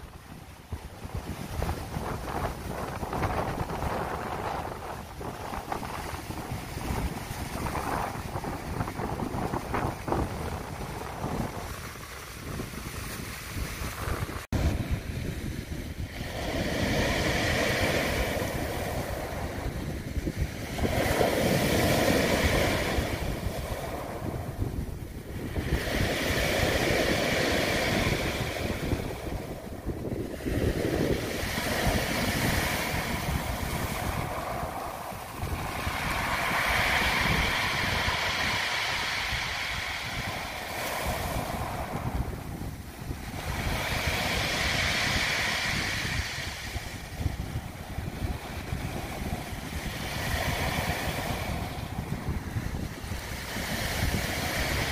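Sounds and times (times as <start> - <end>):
waves breaking on beach: 0.0 - 54.9
wind rumble on microphone: 0.0 - 54.9.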